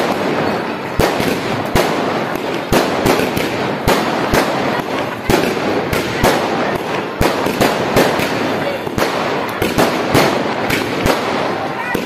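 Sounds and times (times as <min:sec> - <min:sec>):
firework rockets bursting: 0:00.0 - 0:12.0
steady firework crackle: 0:00.0 - 0:12.0.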